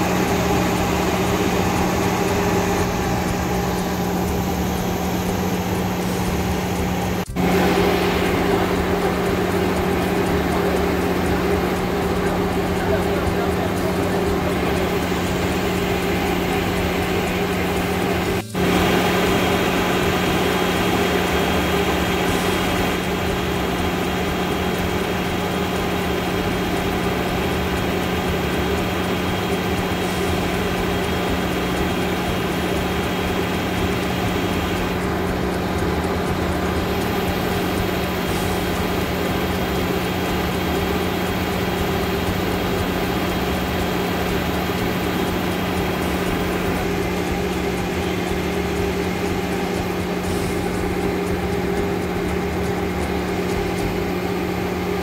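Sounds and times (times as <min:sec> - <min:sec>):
mechanical drone: 0:00.0 - 0:55.0.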